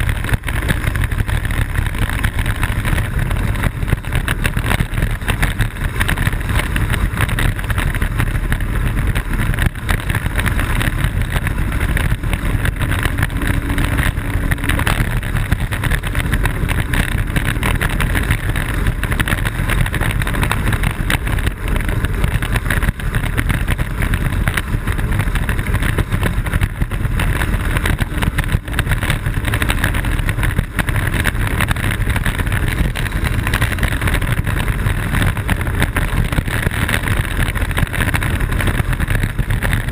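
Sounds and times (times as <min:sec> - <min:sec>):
wheels rolling on ground: 0:00.0 - 0:39.9
wind buffeting microphone: 0:00.0 - 0:39.9.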